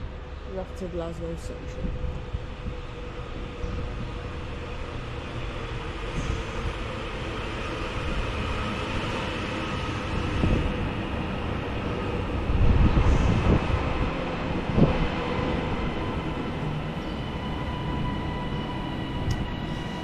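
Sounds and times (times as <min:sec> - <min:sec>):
electric train whine: 0:00.0 - 0:20.0.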